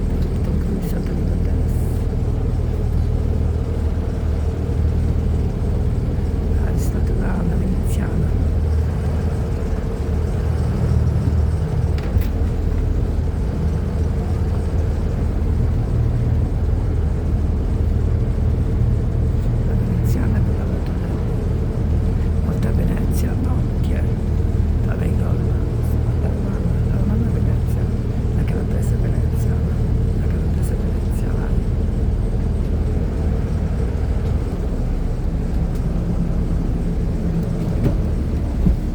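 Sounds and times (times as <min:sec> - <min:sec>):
boat engine droning: 0:00.0 - 0:38.9
constant hum: 0:00.0 - 0:38.9.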